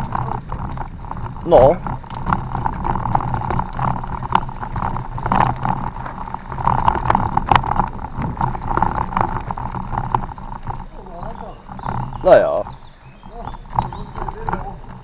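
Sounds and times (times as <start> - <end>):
bike rattling and knocking: 0.0 - 15.0
wind rumble on microphone: 0.0 - 15.0.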